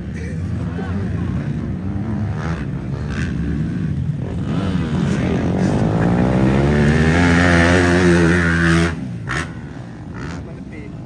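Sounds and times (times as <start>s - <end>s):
motocross bike engine accelerating: 0.0s - 10.7s.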